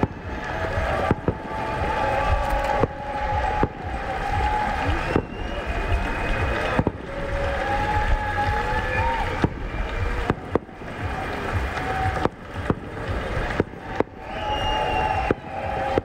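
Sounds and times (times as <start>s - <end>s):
distant fireworks bangs: 0.0s - 16.0s.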